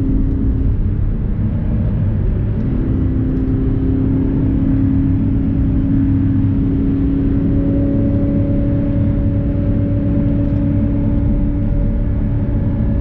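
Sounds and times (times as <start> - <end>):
car engine drone: 0.0 - 13.0
low road rumble: 0.0 - 13.0.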